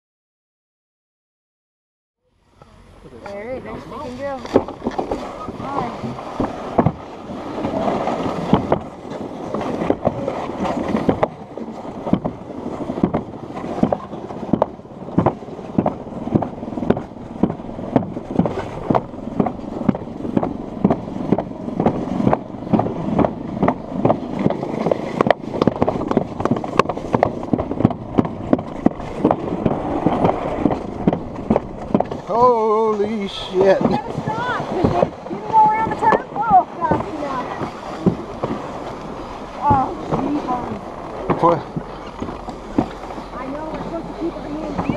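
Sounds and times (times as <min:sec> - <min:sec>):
sled scraping down concrete track: 0:02.6 - 0:44.9
sled knocks and rattles: 0:03.6 - 0:44.9.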